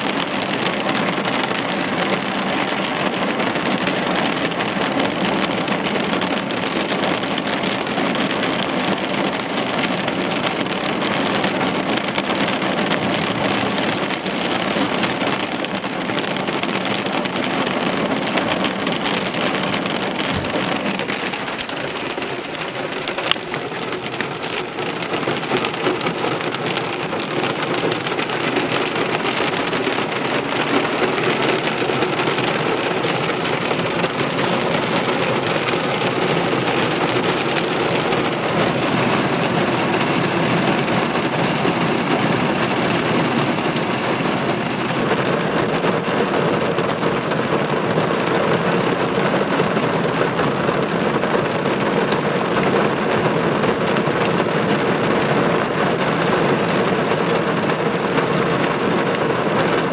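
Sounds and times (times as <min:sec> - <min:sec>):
heavy rain drumming on car roof: 0:00.0 - 0:59.9.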